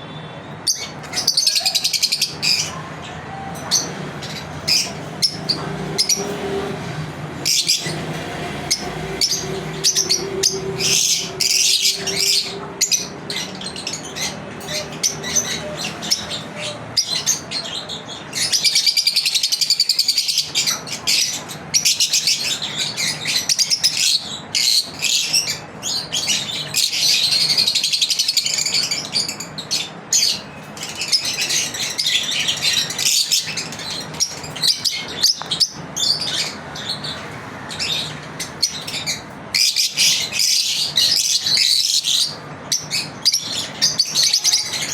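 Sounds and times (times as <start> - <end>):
lovebirds chirping: 0.0 - 44.9.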